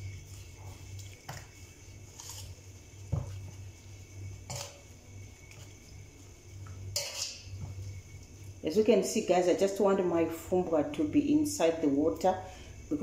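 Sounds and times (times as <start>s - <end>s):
steady low hum: 0.0s - 13.0s
utensil stirring wet leaves: 0.0s - 13.0s.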